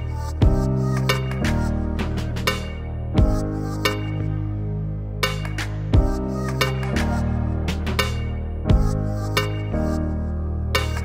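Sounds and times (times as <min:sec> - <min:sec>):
bass notes and chords: 0:00.0 - 0:11.0.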